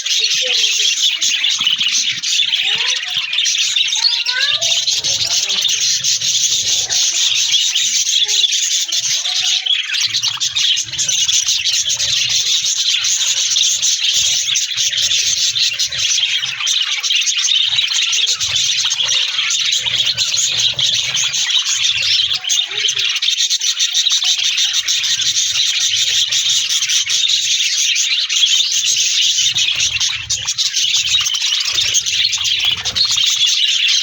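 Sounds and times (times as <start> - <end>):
budgerigars chattering: 0.0 - 34.0.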